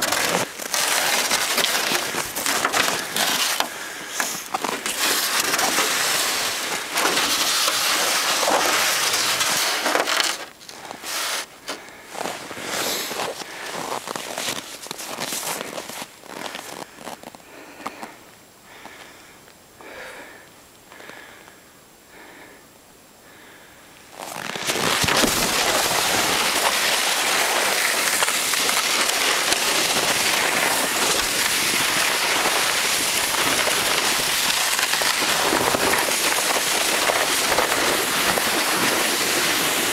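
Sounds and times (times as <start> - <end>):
sled scraping over snow: 0.0 - 11.5, 12.1 - 18.0, 24.1 - 39.9.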